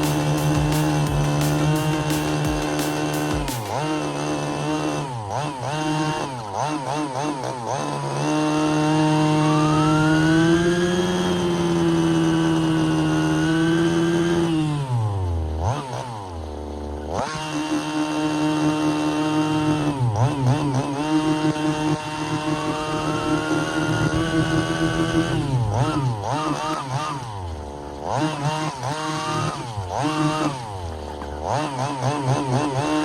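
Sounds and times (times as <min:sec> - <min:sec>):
small two-stroke engine revving: 0:00.0 - 0:33.0.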